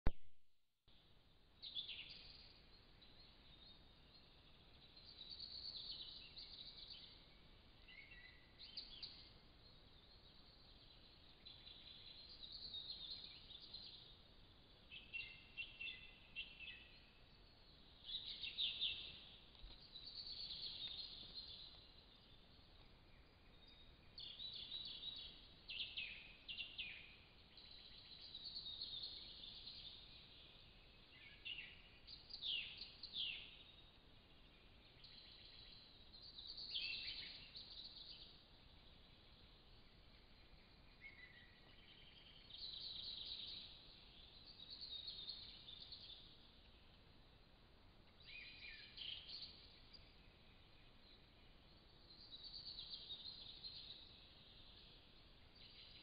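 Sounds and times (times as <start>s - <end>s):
songbirds chirping: 0.9s - 56.0s.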